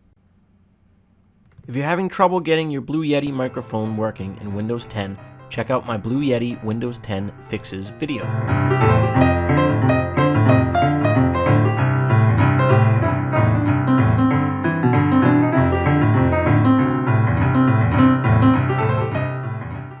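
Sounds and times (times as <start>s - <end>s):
piano music: 2.8s - 20.0s.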